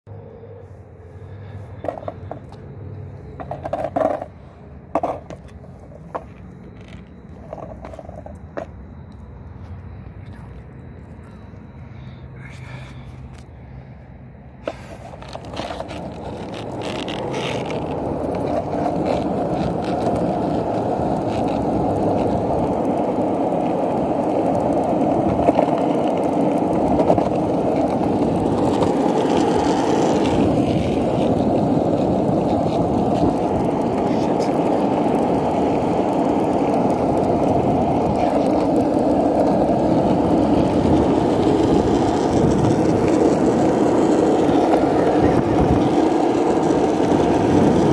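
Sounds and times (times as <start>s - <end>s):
skateboard wheels rolling on pavement: 0.1s - 47.9s.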